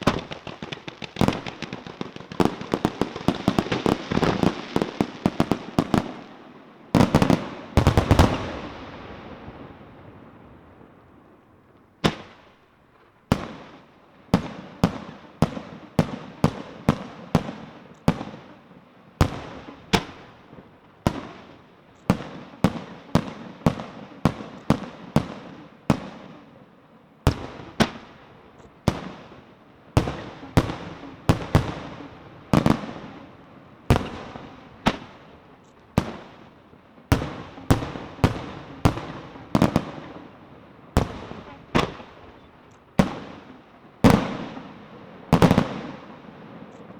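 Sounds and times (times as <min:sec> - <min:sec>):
firework bangs echoing: 0:00.0 - 0:10.8, 0:12.0 - 0:12.6, 0:19.2 - 0:26.5, 0:27.3 - 0:46.9.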